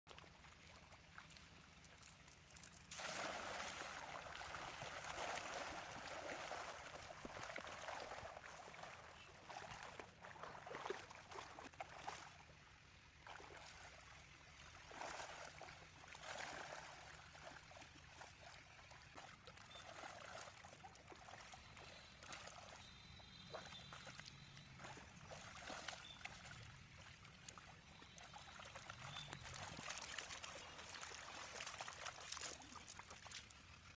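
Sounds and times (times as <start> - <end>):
water splashing and sloshing: 0.1 - 34.0.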